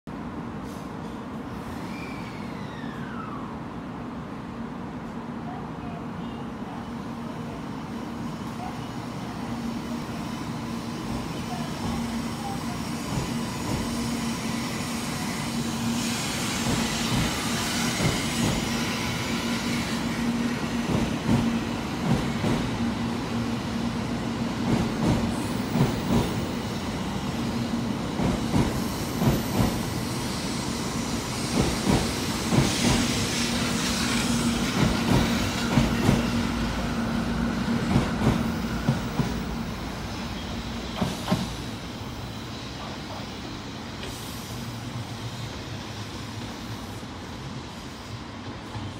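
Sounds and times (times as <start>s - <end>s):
high-speed train hum: 0.1s - 48.9s.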